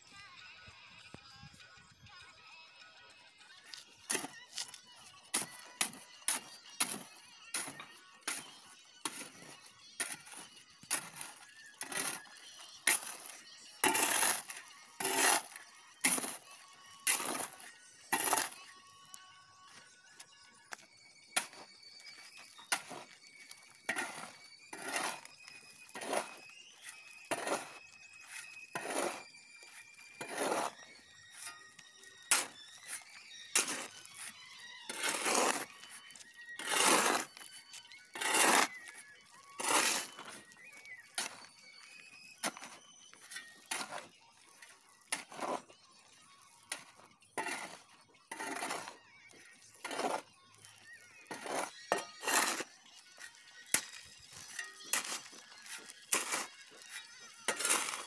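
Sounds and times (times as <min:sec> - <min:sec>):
shovel scraping gravel on concrete: 0:03.6 - 0:58.0.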